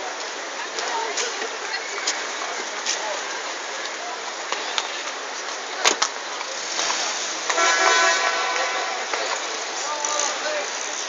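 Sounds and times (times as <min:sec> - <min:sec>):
steady rushing outdoor noise: 0:00.0 - 0:11.0.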